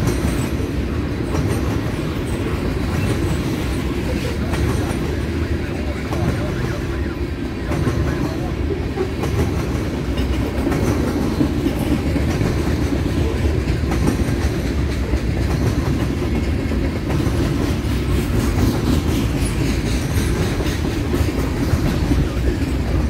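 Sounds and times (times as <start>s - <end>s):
clickety-clack over rail joints: 0.0s - 23.0s
train wheels rumbling on rail: 0.0s - 23.0s.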